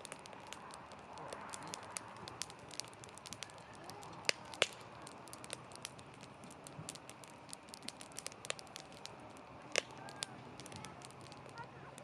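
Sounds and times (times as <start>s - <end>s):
soft steady hiss: 0.0s - 12.0s
wood fire crackling: 0.0s - 12.0s.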